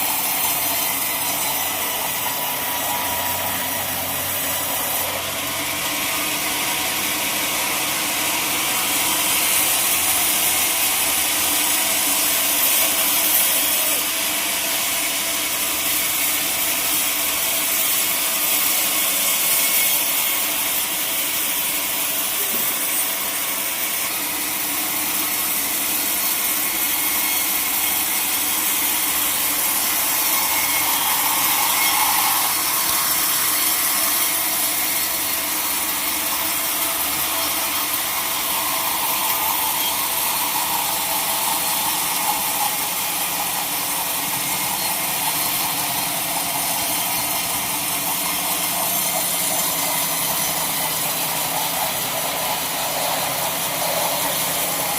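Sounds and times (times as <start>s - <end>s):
saw cutting through log: 0.0s - 54.9s.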